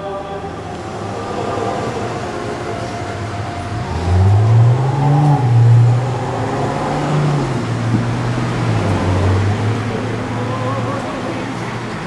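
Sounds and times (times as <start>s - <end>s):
men chanting a slow hymn: 0.0s - 7.3s, 9.1s - 11.9s.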